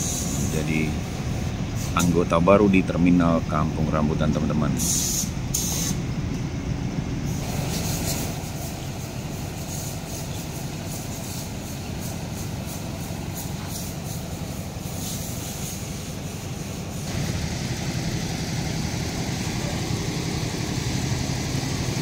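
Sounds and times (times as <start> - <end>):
diesel bus engine idling: 0.0 - 22.0.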